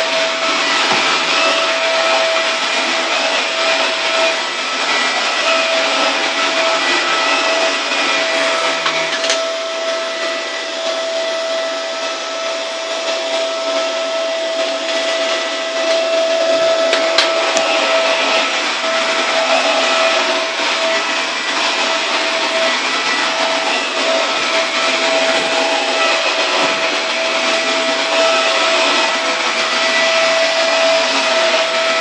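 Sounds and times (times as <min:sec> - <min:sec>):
vacuum cleaner running on carpet: 0:00.0 - 0:32.0.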